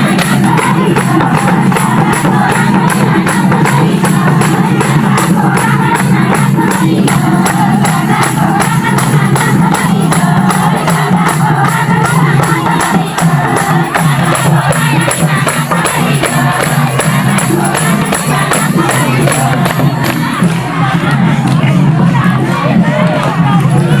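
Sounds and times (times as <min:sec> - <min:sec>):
crowd noise: 0:00.0 - 0:24.0
festival dance music with singing: 0:00.0 - 0:24.0.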